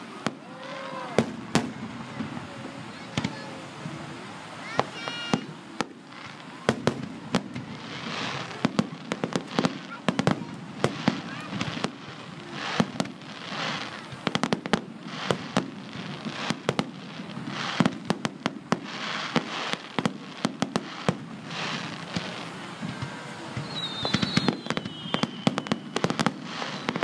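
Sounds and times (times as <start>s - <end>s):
fireworks crackling hiss: 0.0s - 27.0s
fireworks shells bursting: 4.7s - 27.0s.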